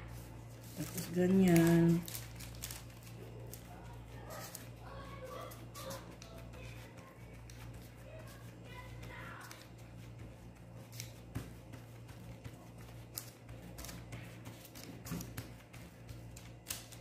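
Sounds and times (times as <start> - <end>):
plastic glove and paper rustling: 0.0 - 17.0
steady low hum: 0.0 - 17.0.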